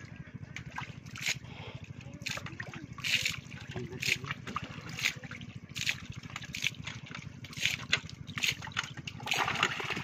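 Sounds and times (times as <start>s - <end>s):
bowl splashing in muddy water: 0.0s - 10.0s.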